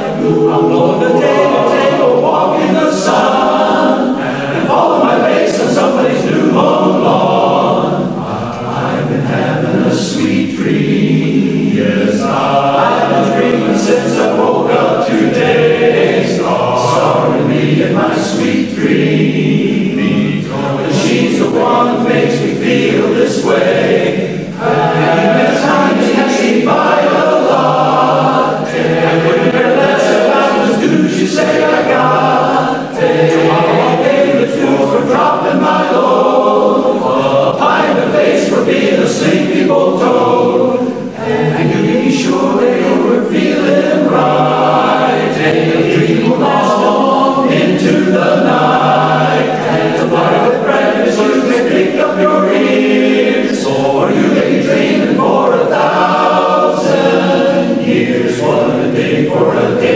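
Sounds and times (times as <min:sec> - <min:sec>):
male chorus singing a cappella: 0:00.0 - 0:59.9.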